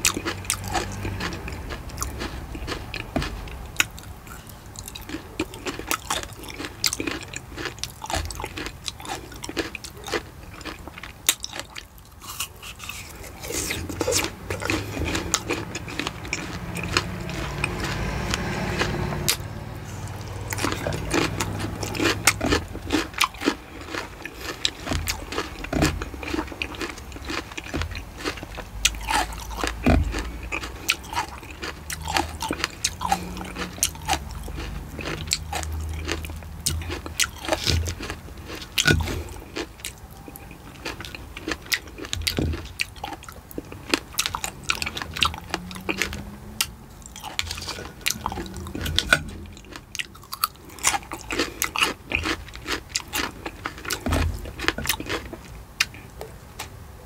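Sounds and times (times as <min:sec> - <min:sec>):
small crunches: 0:00.0 - 0:56.7
person chewing food: 0:00.0 - 0:56.8.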